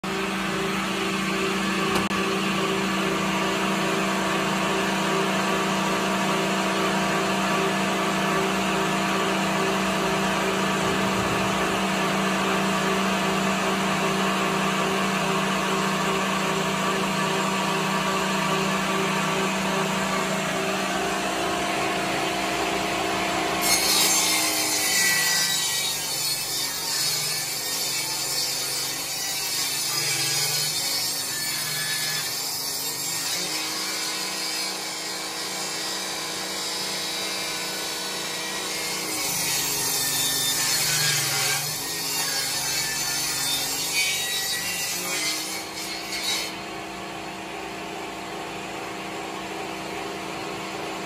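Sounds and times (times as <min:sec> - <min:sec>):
harsh sawing noise: 0:00.0 - 0:46.9.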